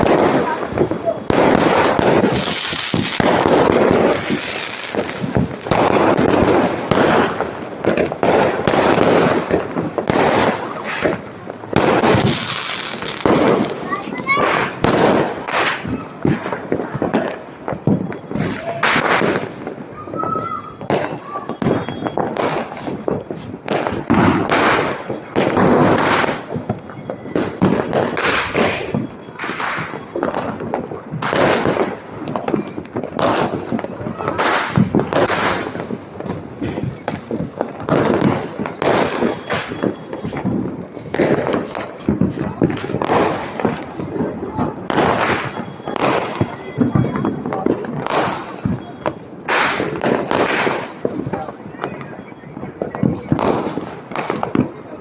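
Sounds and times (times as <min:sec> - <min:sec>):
firecrackers crackling bangs: 0:00.0 - 0:55.0.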